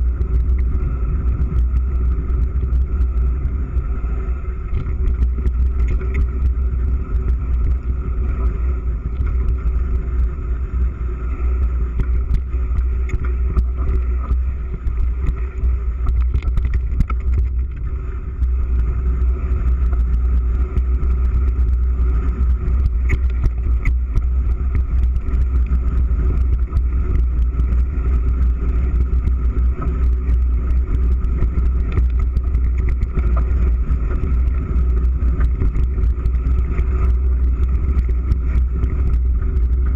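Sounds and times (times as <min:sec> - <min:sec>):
wind and trail vibration rumble: 0:00.0 - 0:39.9
bike clicks and rattles: 0:04.6 - 0:39.9.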